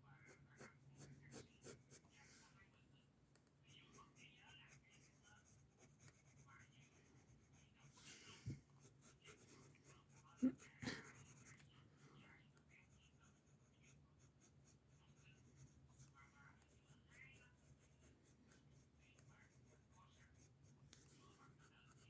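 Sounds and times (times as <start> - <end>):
pencil scratching on paper: 0.2 - 2.5, 3.7 - 11.7, 12.6 - 22.0.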